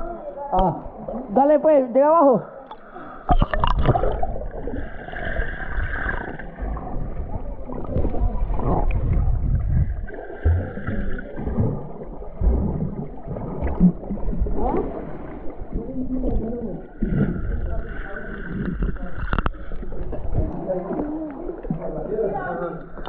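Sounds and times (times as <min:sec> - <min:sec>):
underwater water rumble and gurgles: 0:02.6 - 0:23.0.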